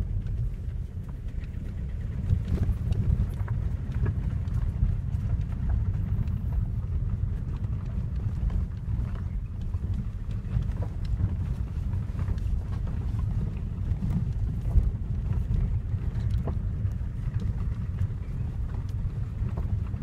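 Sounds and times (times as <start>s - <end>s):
engine and tyre rumble: 0.0s - 20.0s
light knocks and rattles: 0.0s - 20.0s.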